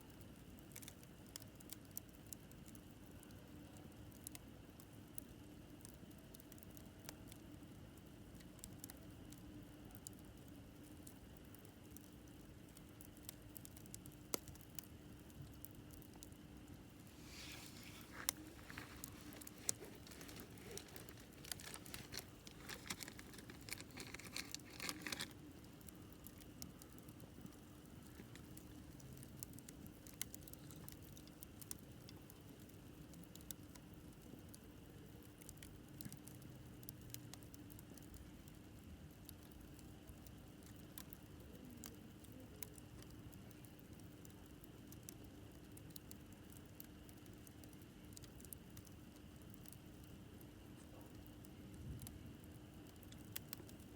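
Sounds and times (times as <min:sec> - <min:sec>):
campfire crackling: 0:00.0 - 0:53.9
faint low hum: 0:00.0 - 0:53.9
fire popping: 0:09.9 - 0:50.2, 0:50.8 - 0:53.9.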